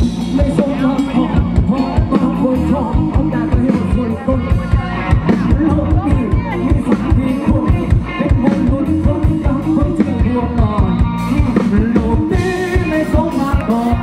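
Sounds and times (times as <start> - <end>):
drum kit beat: 0.0 - 14.0
electric guitar: 0.0 - 14.0
man singing: 0.0 - 14.0.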